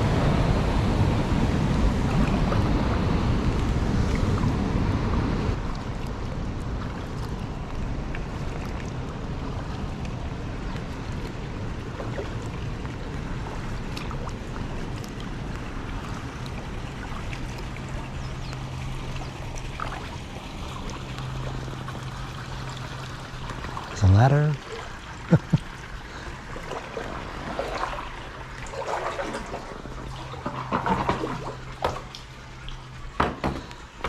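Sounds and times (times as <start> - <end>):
low steady hum: 0.0 - 34.0
rushing water: 0.0 - 34.0
kayak paddle splashing: 5.5 - 34.0.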